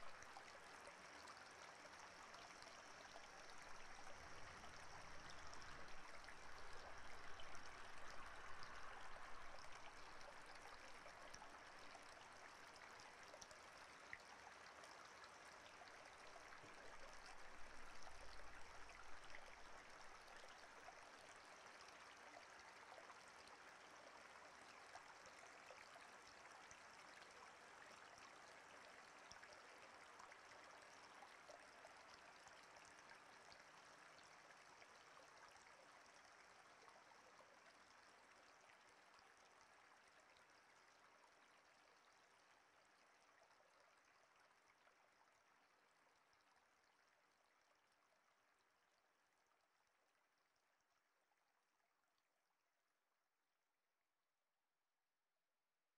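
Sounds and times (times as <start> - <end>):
faint running water: 0.0 - 50.9.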